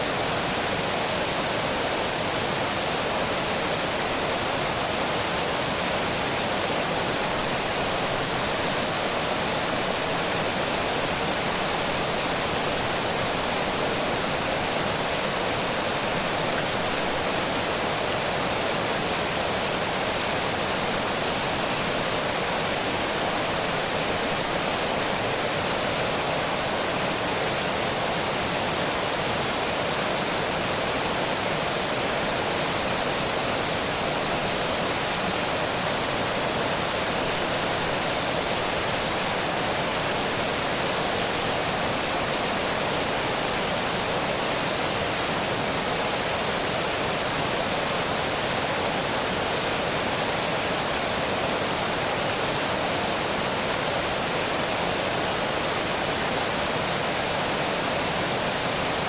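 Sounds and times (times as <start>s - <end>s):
water rushing over dam: 0.0s - 59.0s.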